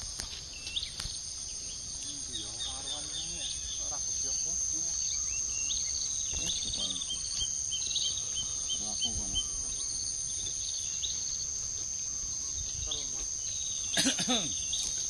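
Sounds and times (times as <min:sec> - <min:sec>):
insects droning: 0:00.0 - 0:15.0
bird chirping: 0:00.4 - 0:15.0.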